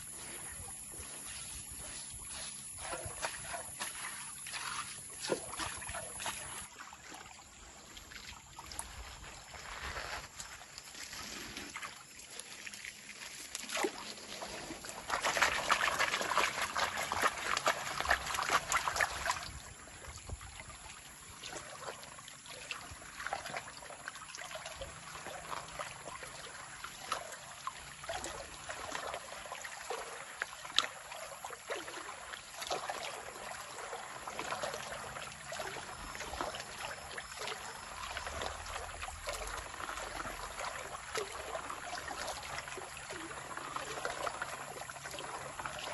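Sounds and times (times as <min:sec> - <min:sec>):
water sloshing and trickling: 0:00.0 - 0:45.9.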